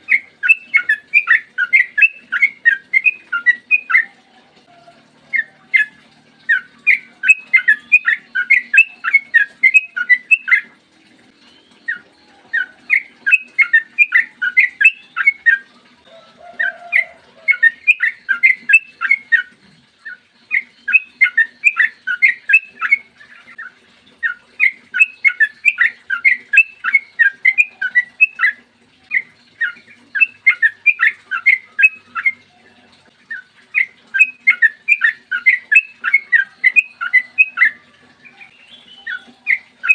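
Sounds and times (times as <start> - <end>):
bulbul singing bubbling notes: 0.0 - 4.2, 5.3 - 10.6, 11.3 - 15.7, 16.6 - 32.5, 33.2 - 39.9.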